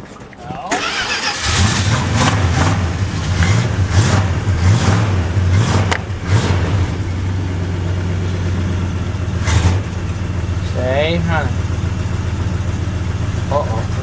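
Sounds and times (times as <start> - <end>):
car engine revving and idling: 0.8 - 14.0.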